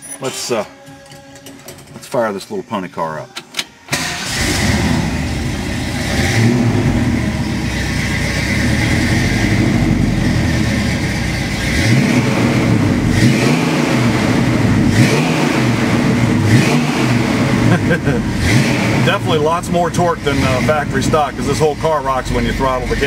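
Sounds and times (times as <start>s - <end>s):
car engine idling: 4.0s - 23.0s
engine revving: 4.0s - 23.0s.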